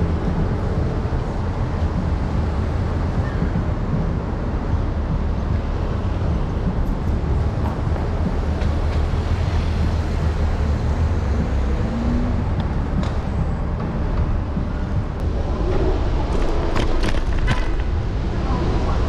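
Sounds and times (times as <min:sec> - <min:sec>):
cars driving: 0:00.0 - 0:19.0.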